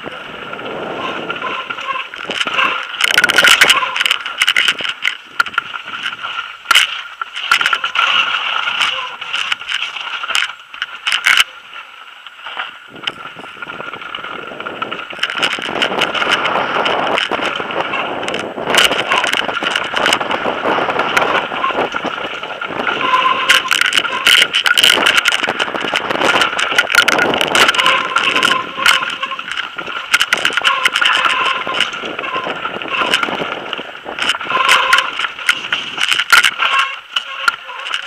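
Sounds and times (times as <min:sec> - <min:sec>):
bike clattering over rocks: 0:00.0 - 0:38.0
tyres on gravel: 0:00.0 - 0:38.0
wind: 0:00.0 - 0:38.0.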